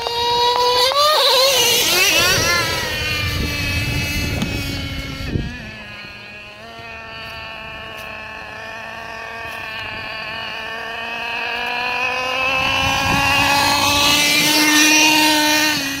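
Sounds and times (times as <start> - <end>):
rc truck engine whining: 0.0 - 16.0.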